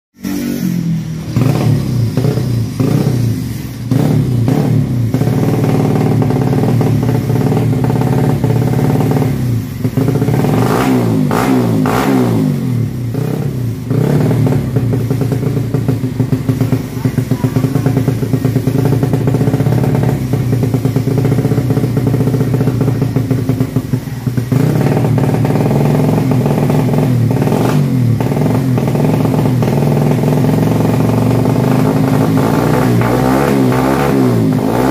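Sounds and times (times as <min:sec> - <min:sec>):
motorcycle engine idling and revving: 0:00.2 - 0:34.9.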